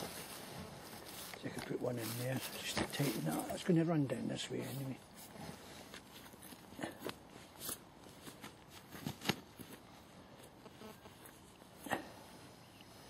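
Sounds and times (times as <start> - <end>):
tarp and dry leaves rustling: 0.0 - 11.6.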